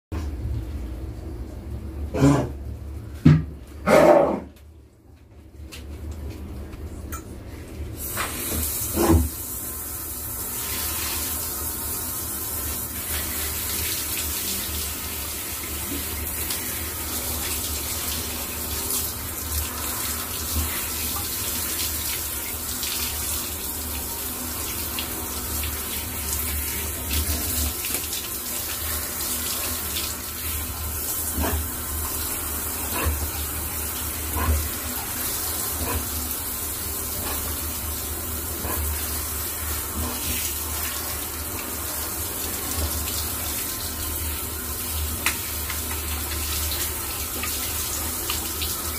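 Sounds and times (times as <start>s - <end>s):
running water: 8.0s - 48.9s.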